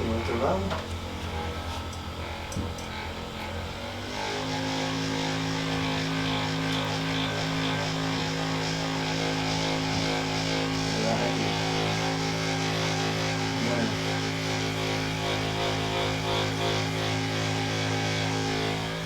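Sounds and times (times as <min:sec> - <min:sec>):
small electric motor humming: 0:00.0 - 0:19.0.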